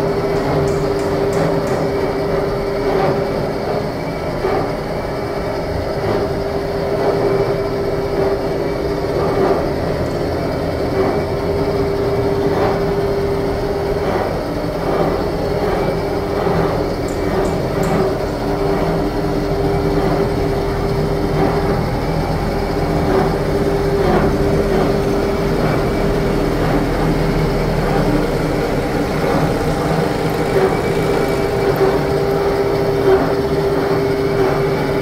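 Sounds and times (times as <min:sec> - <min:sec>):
vehicle running rumble: 0:04.4 - 0:35.0.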